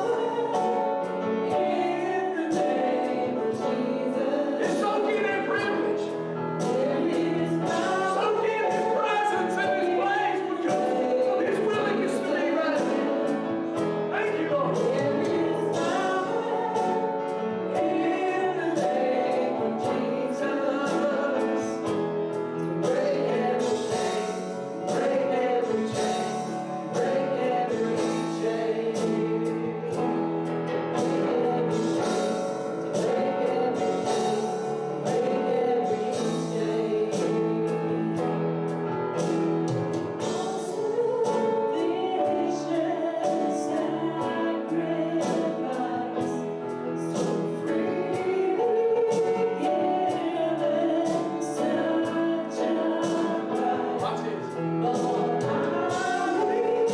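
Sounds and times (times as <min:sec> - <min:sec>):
group singing a hymn: 0:00.0 - 0:56.9
instrumental accompaniment: 0:00.0 - 0:56.9.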